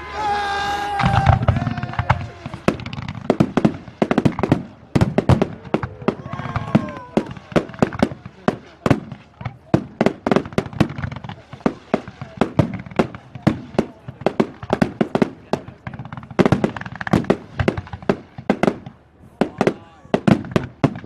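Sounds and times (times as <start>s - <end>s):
firework bangs and crackles: 0.8s - 21.0s.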